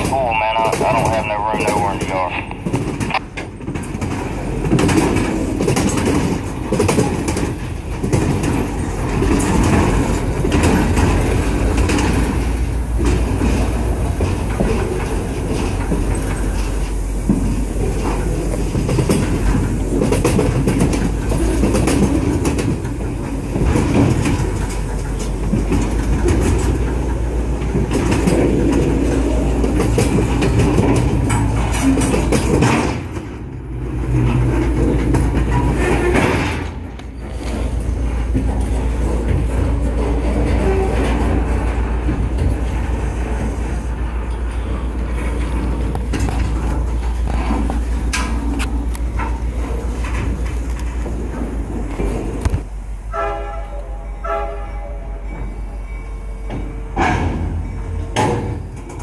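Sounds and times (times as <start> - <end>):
train low rumble: 0.0 - 59.0
train wheels clacking over rail joints: 0.0 - 59.0.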